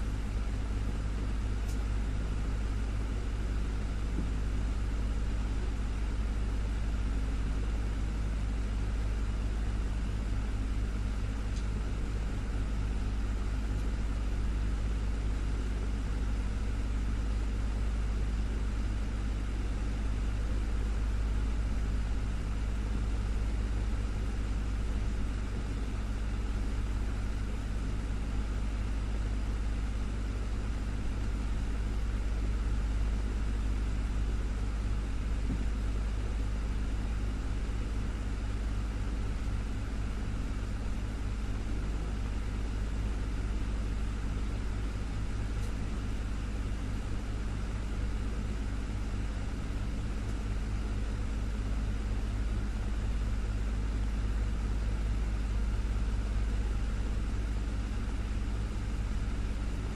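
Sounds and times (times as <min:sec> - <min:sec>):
desktop fan running: 0:00.0 - 0:59.9.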